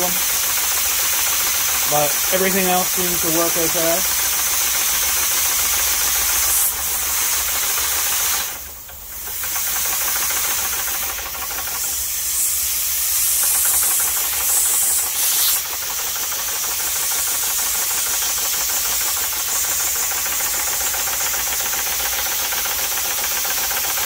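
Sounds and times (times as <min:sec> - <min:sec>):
compressed air hissing: 0:00.0 - 0:24.0.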